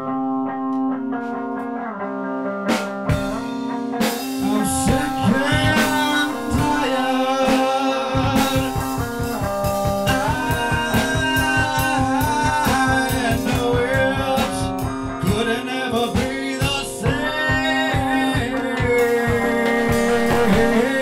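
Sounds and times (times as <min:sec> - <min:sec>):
guitar: 0:00.0 - 0:21.0
drum beat: 0:02.9 - 0:21.0
person singing: 0:04.2 - 0:21.0.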